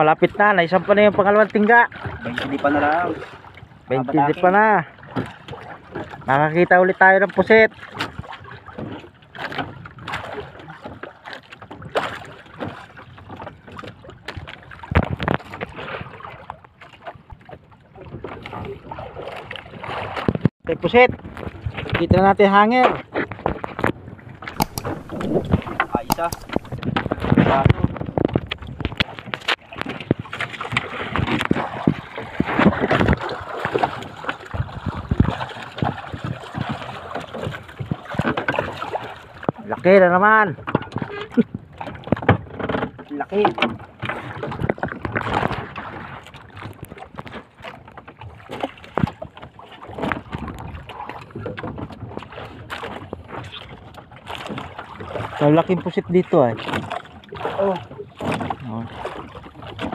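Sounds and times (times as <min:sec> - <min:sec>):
water lapping against boat hull: 0:00.0 - 0:59.9.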